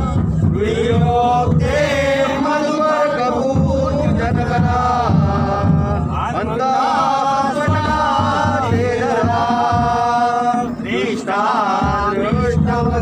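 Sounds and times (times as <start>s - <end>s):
group singing devotional song: 0.0s - 13.0s.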